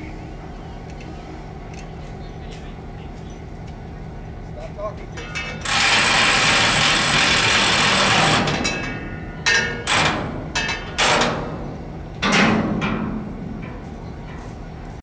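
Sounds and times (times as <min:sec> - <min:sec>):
locomotive exhaust chuffs: 0:00.1 - 0:15.0.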